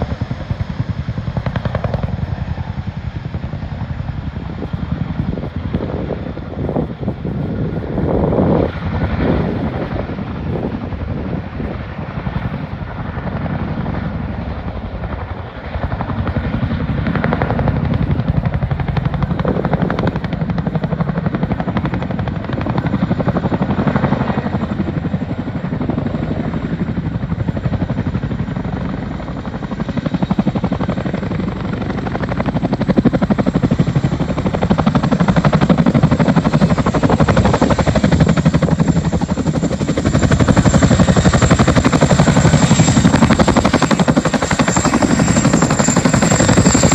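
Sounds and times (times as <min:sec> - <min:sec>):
helicopter rotor chop: 0:00.0 - 0:46.9
high helicopter whine: 0:00.0 - 0:46.9.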